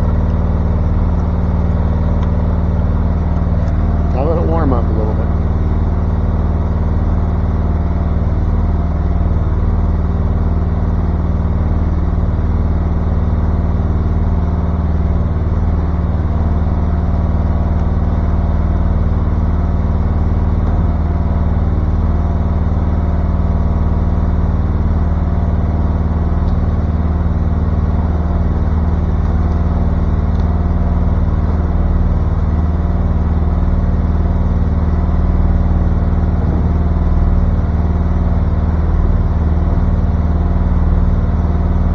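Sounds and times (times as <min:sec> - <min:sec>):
small engine idling: 0:00.0 - 0:41.9.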